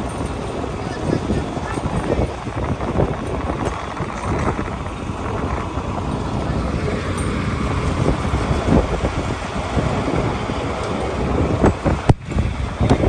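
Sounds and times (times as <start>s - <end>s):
tractor running: 0.0s - 13.0s
wind buffeting microphone: 0.0s - 13.0s.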